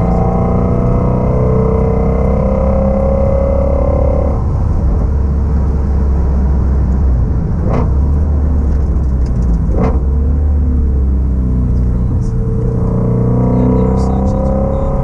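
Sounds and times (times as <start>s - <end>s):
car engine cruising: 0.0s - 15.0s
low road rumble: 0.0s - 15.0s.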